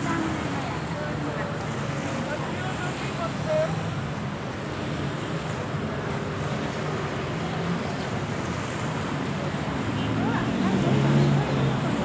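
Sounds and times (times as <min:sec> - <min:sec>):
light surf: 0:00.0 - 0:12.0
passing road traffic: 0:00.0 - 0:12.0.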